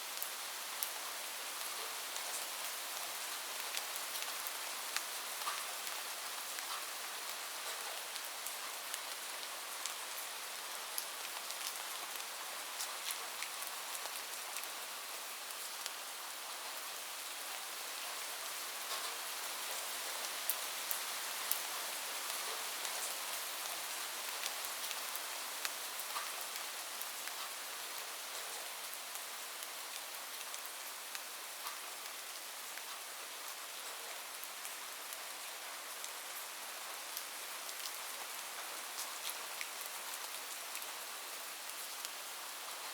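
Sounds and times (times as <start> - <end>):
rain on a roof: 0.0 - 42.9.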